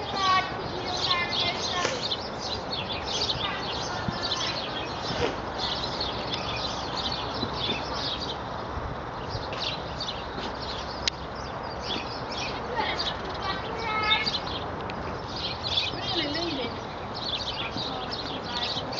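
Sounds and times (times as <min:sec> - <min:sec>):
birds chirping: 0:00.0 - 0:18.9
outdoor background hiss: 0:00.0 - 0:18.9.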